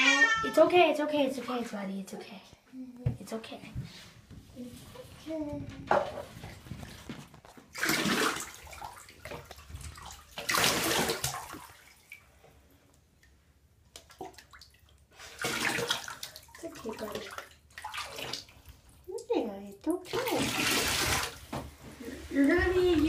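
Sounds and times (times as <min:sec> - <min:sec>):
water splashing in bathtub: 0:00.0 - 0:02.2, 0:03.2 - 0:23.0.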